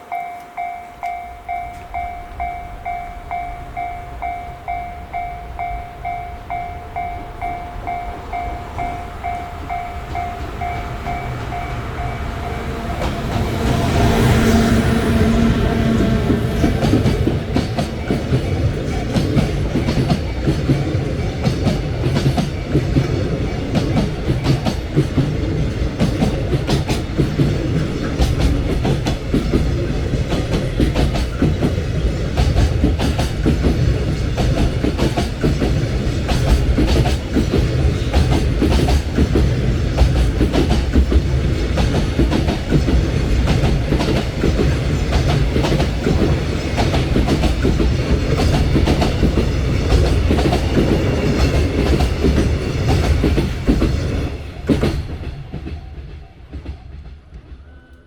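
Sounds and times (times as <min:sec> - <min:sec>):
train low rumble: 0:00.0 - 0:58.0
wheels clickety-clack on rail joints: 0:00.0 - 0:58.0.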